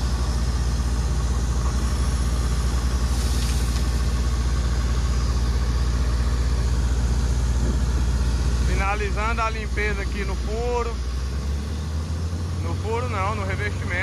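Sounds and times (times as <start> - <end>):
drilling rig engine running: 0.0 - 14.0.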